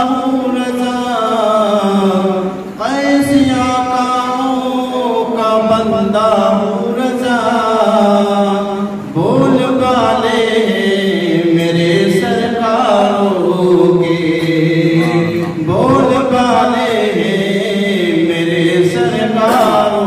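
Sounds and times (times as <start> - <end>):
man chanting into a microphone: 0.0 - 20.0.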